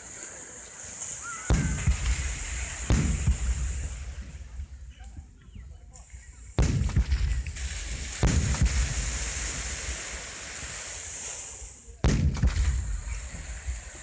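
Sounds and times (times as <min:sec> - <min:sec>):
fireworks hissing: 0:00.0 - 0:14.0
fireworks booming: 0:01.1 - 0:14.0.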